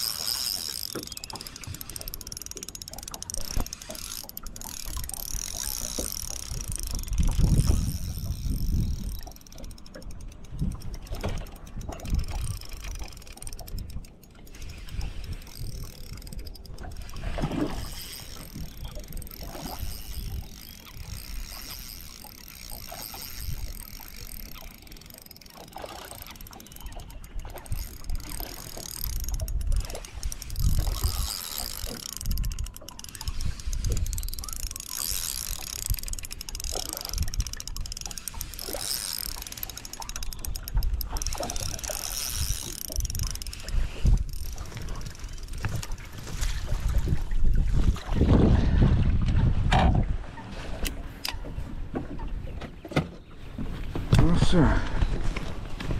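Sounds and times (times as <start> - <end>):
fishing reel clicking: 0.0 - 47.6
water lapping against boat hull: 0.0 - 55.9
wind buffeting microphone: 0.4 - 52.6.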